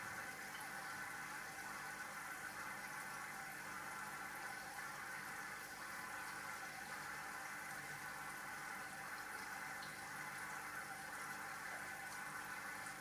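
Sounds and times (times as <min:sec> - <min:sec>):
aquarium water bubbling: 0:00.0 - 0:13.0.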